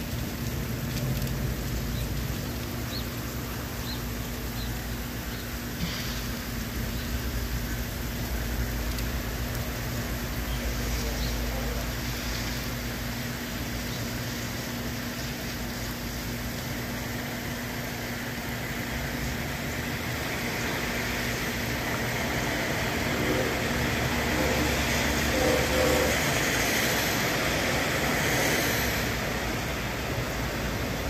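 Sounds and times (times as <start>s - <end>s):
rain: 0.0s - 31.0s
tyres hissing on wet pavement: 0.0s - 31.0s.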